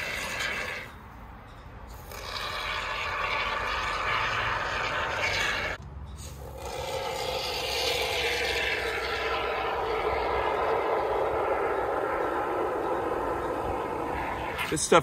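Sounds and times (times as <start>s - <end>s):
foam sputtering from aerosol can: 0.0s - 0.9s, 1.9s - 15.0s.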